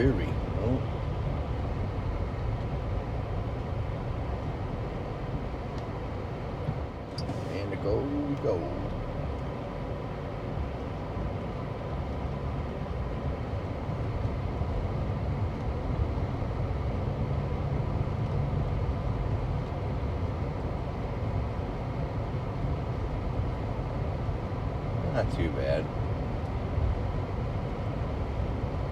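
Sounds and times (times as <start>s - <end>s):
car driving on wet road: 0.0s - 28.9s.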